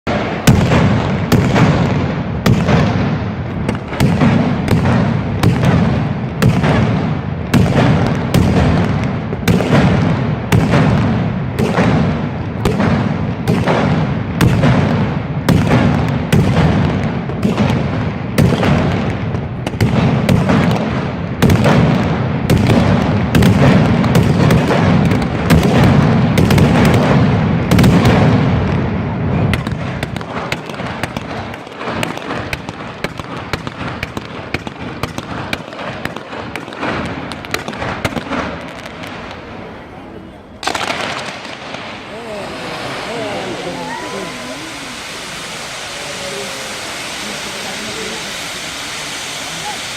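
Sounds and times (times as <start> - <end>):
fireworks exploding: 0.0 - 49.9.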